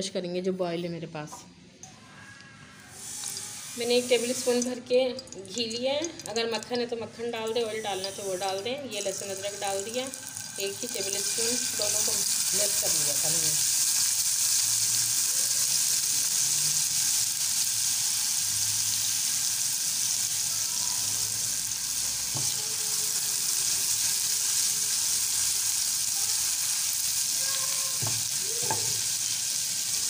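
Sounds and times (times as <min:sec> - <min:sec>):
paste sizzling in a frying pan: 0:02.9 - 0:30.0.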